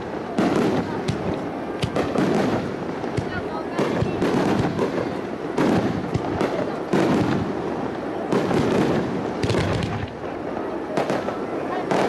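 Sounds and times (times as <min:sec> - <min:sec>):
aerial fireworks bursting: 0:00.0 - 0:12.0
fireworks crackling: 0:00.0 - 0:12.0.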